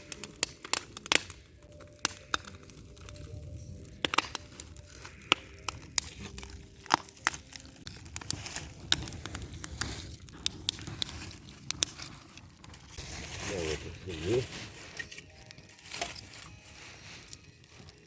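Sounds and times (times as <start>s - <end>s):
bonfire crackling and popping: 0.0s - 18.0s
low steady rush of fire: 0.0s - 18.0s.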